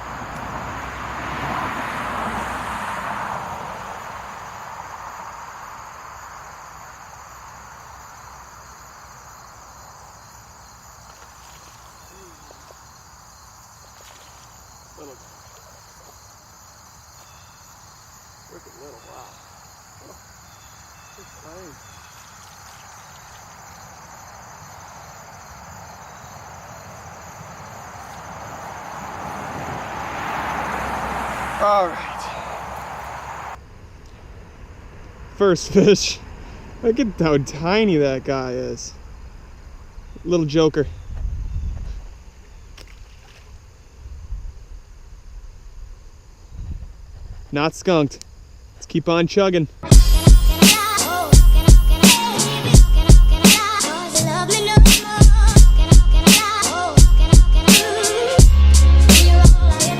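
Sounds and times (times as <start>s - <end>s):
insects chirping: 0.0s - 59.9s.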